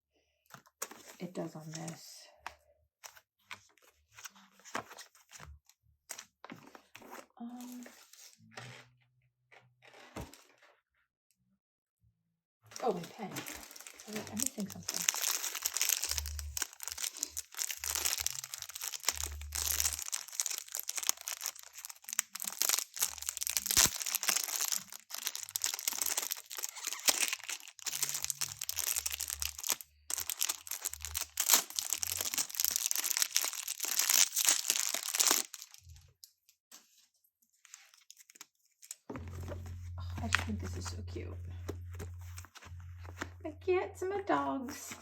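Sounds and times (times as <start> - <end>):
plastic cover and paper crinkling: 0.5 - 2.2, 3.0 - 8.8, 12.7 - 43.6.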